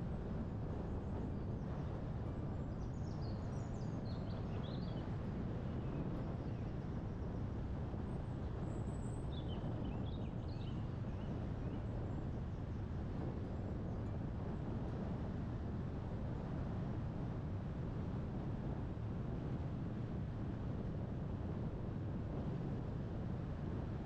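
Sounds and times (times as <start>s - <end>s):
low wind noise: 0.0s - 24.0s.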